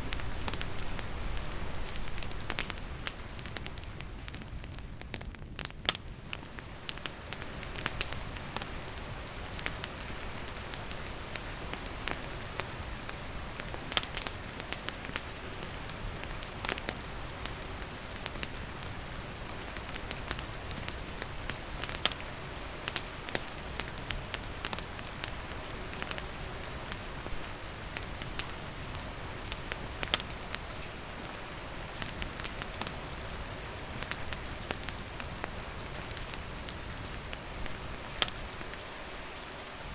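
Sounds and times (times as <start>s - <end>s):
campfire crackling and popping: 0.0s - 38.8s
rain falling: 0.0s - 39.9s.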